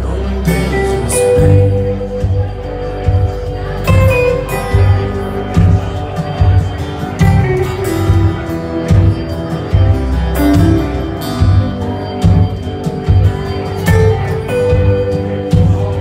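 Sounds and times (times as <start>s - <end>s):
live rock band playing: 0.0s - 16.0s
steady kick drum beat: 0.5s - 16.0s.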